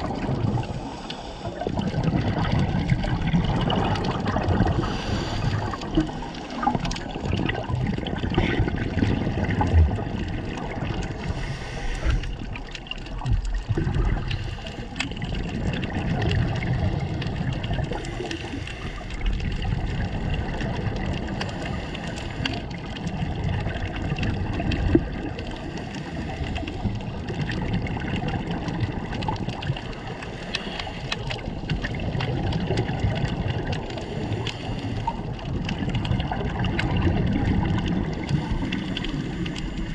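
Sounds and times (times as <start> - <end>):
faint scattered underwater clicks: 0.0 - 39.9
underwater watery rush: 0.0 - 39.9.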